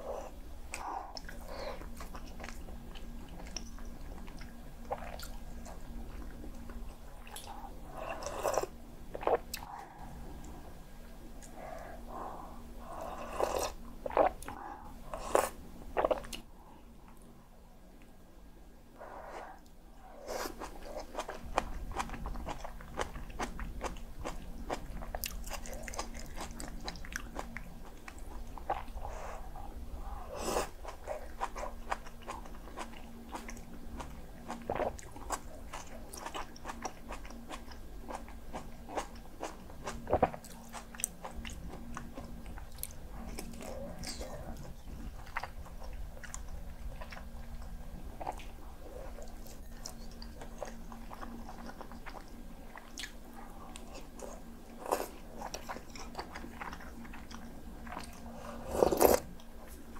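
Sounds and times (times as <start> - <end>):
faint low hum: 0.0 - 59.9
chewing and crunching: 0.2 - 10.6, 11.3 - 16.4, 20.0 - 59.9.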